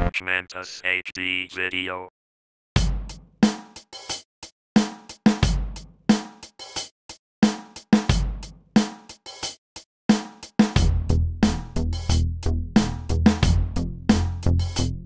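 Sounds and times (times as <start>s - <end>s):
music with drum beat: 2.8s - 15.0s.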